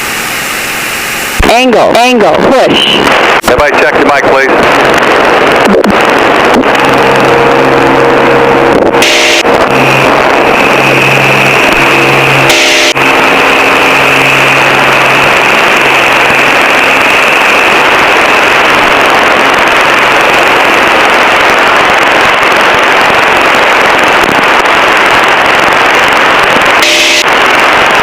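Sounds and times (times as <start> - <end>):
light aircraft engine drone: 0.0 - 28.0
radio hiss: 0.0 - 28.0.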